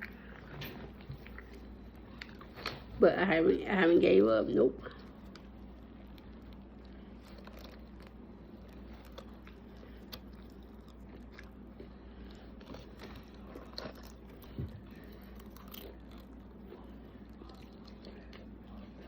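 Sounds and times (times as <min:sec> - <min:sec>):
person chewing food: 0:00.0 - 0:02.9, 0:04.9 - 0:19.0.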